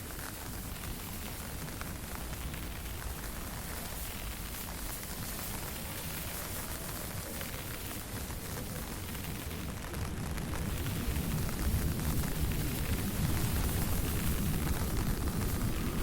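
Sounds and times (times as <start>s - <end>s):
raindrops ticking: 0.0s - 16.0s.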